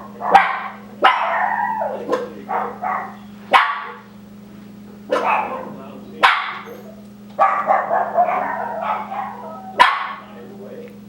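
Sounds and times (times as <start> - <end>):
dog barking: 0.0 - 4.1, 5.0 - 10.4.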